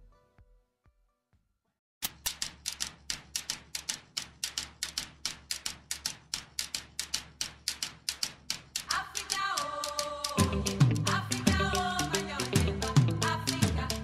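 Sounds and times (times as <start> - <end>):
rapid percussive clicking: 2.0 - 14.0.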